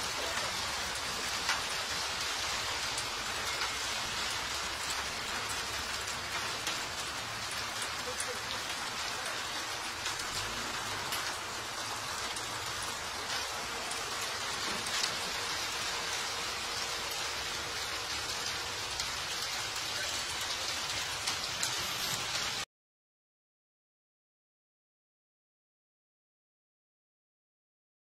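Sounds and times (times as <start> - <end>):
hailstones ticking on hard surfaces: 0.0 - 22.6
rain hiss: 0.0 - 22.6.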